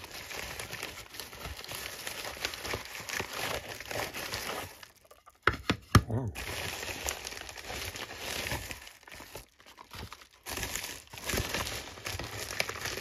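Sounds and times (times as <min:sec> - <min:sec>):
plastic mailer crinkling: 0:00.0 - 0:05.4, 0:06.4 - 0:13.0.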